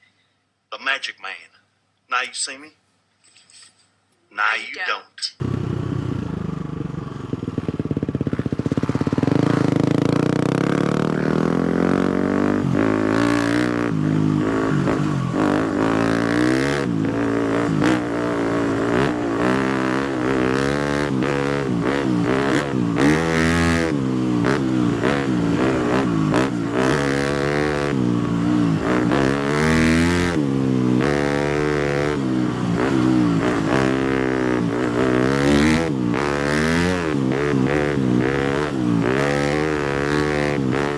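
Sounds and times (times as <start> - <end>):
dirt bike engine revving: 5.4 - 40.9.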